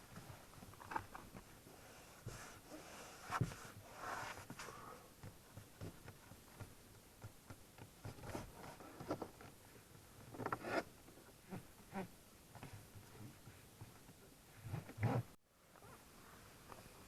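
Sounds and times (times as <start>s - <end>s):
rustle: 0.0s - 5.1s, 8.0s - 17.0s.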